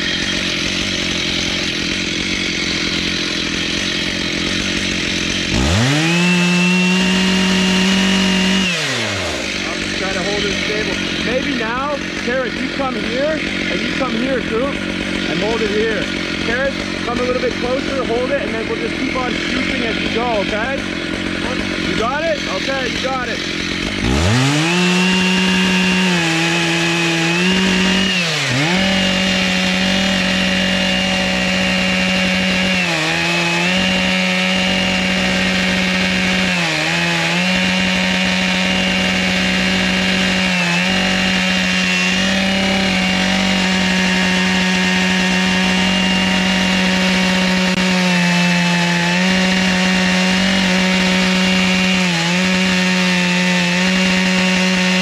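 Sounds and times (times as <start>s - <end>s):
chainsaw cutting through a log: 0.0s - 55.0s.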